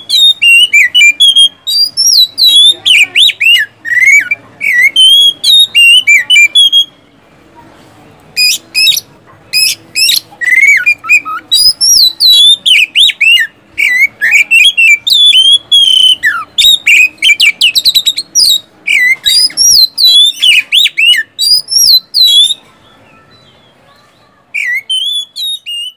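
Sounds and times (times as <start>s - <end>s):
songbird singing whistled notes: 0.0s - 7.3s, 8.4s - 25.9s.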